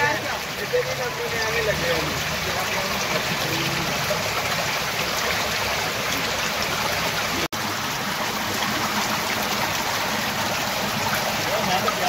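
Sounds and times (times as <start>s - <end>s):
stream splashing over rocks: 0.0s - 12.0s.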